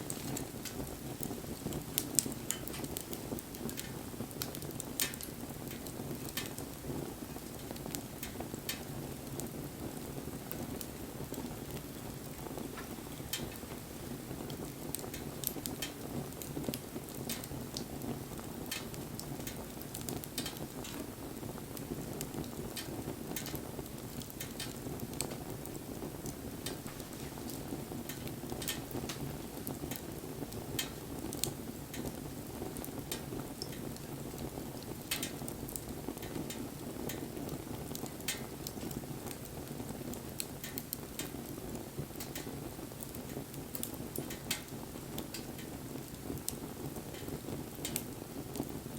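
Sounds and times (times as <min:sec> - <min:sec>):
campfire crackling and popping: 0:00.0 - 0:48.9
low rush of flames: 0:00.0 - 0:48.9.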